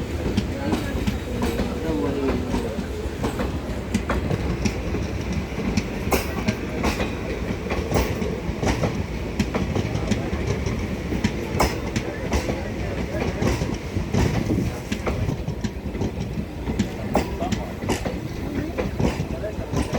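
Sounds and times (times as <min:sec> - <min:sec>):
train low rumble: 0:00.0 - 0:19.9
train wheels clacking over rail joints: 0:00.0 - 0:19.9.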